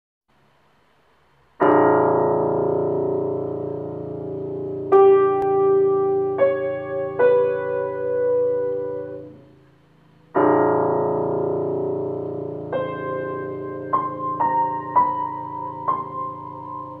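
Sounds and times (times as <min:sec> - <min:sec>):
slow piano music: 0:01.6 - 0:17.0.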